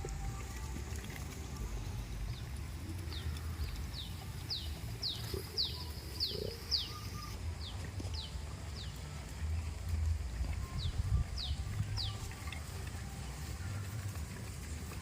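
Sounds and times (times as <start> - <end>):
low steady rumble: 0.0 - 5.8, 6.7 - 15.0.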